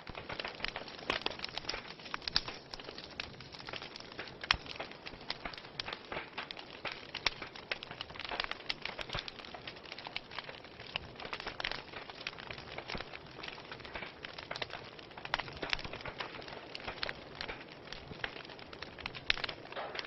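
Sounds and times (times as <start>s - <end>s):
soft hiss of fire: 0.0s - 20.0s
wood fire crackling: 0.0s - 20.0s.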